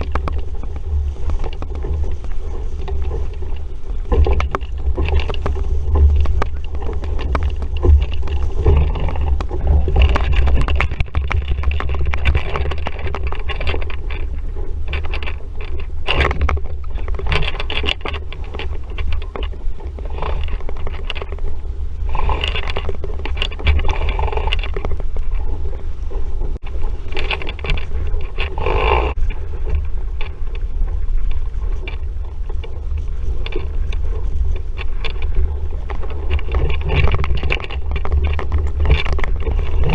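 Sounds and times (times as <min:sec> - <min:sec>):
water splashing along a hull: 0:00.0 - 0:39.9
wind buffeting microphone: 0:00.0 - 0:39.9.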